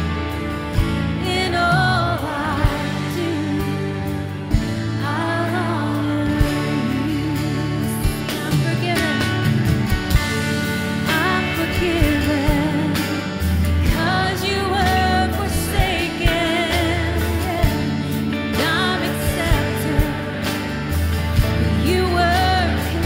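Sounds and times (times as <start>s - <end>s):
band playing: 0.0s - 23.0s
person singing with vibrato: 0.7s - 10.1s, 10.8s - 23.0s.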